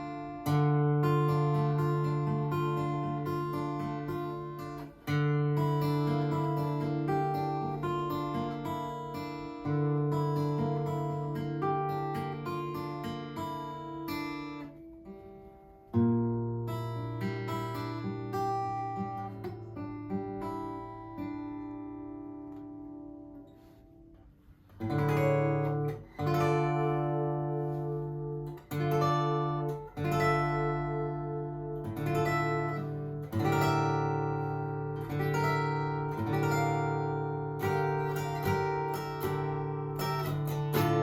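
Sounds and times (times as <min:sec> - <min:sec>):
acoustic guitar picked notes: 0:00.0 - 0:41.0
acoustic guitar strummed chords: 0:00.0 - 0:41.0.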